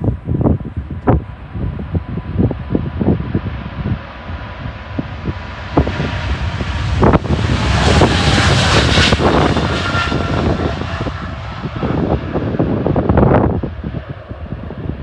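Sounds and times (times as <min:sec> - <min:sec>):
jet airliner passing: 0:00.0 - 0:15.0
wind buffeting microphone: 0:00.0 - 0:15.0.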